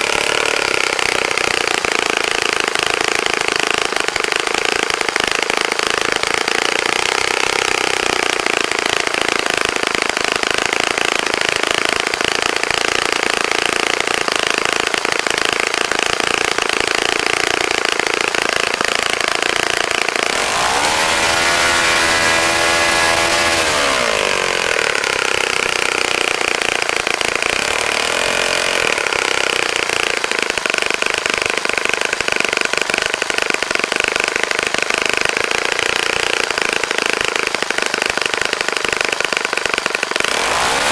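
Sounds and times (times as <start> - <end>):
model aircraft engine running: 0.0 - 40.9.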